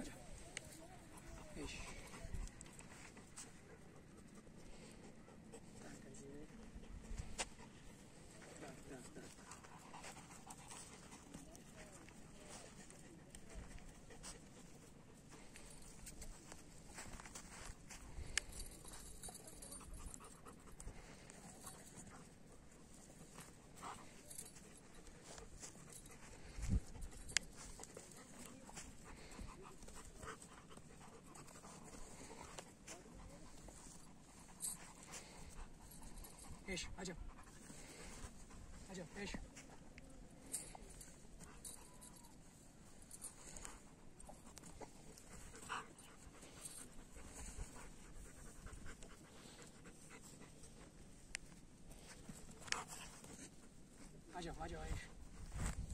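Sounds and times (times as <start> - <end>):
dogs panting: 0.0 - 55.9
running over dry grass: 5.6 - 55.9.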